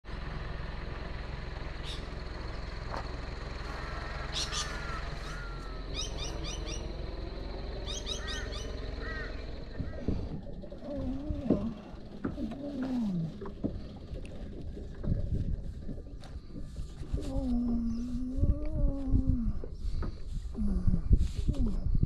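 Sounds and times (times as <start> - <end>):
low background rumble: 0.0 - 22.0
wild birds calling: 0.2 - 18.3.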